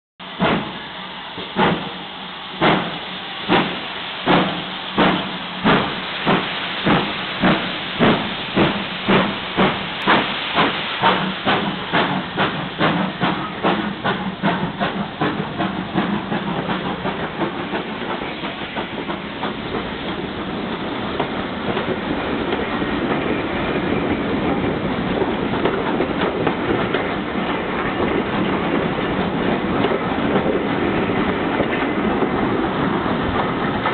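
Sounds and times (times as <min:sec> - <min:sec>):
steam locomotive chuffing: 0:00.2 - 0:33.9
train coaches rumbling on rails: 0:00.2 - 0:33.9.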